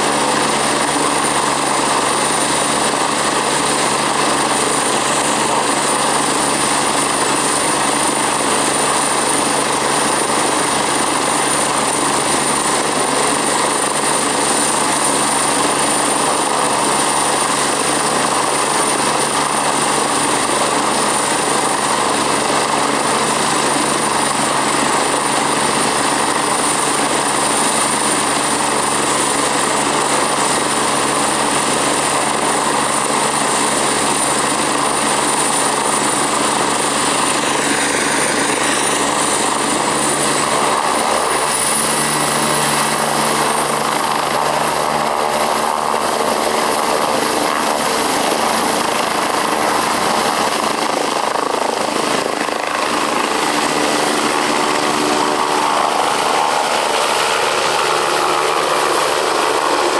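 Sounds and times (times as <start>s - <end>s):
helicopter rotor and engines running: 0.0s - 59.9s
high turbine whine: 0.0s - 59.9s.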